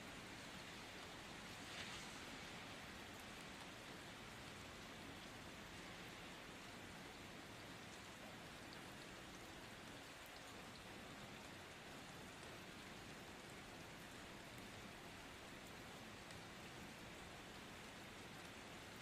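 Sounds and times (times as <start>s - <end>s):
steady rain hiss: 0.0s - 19.0s
raindrop ticks: 0.4s - 19.0s.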